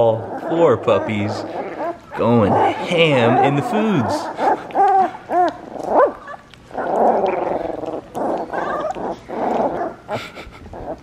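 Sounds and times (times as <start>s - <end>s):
puppies growling and grunting: 0.0s - 11.0s
puppy whimper: 0.0s - 11.0s.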